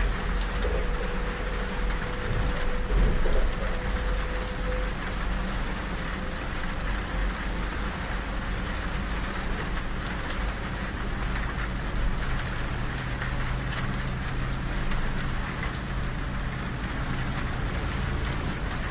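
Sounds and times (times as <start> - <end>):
moving train rumble: 0.0 - 18.9
rain on train window and roof: 0.0 - 18.9.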